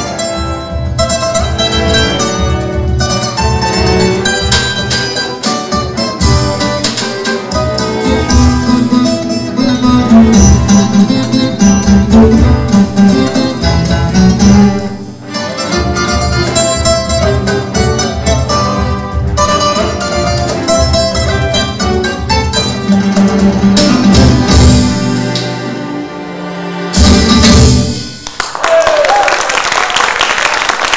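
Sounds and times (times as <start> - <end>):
light percussion: 0.0 - 25.7
plucked guitar notes: 0.0 - 26.0
bowed cello lines: 0.0 - 27.4.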